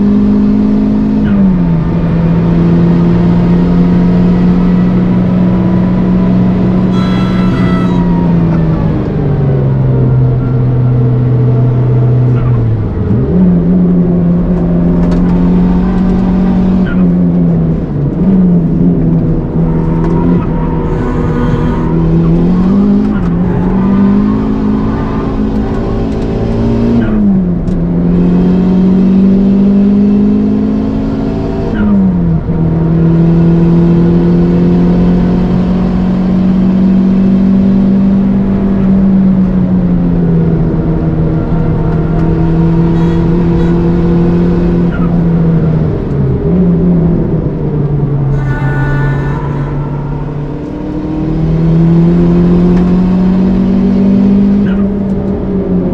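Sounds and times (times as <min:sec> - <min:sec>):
turbocharged engine revving: 0:00.0 - 0:55.9.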